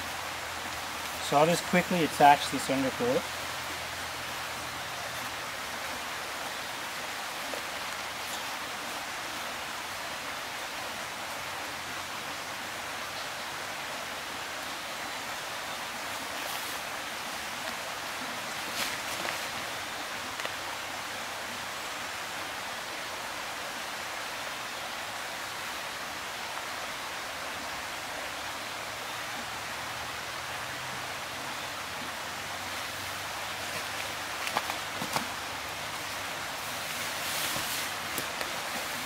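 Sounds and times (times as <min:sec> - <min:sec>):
steady rushing hiss: 0:00.0 - 0:39.0.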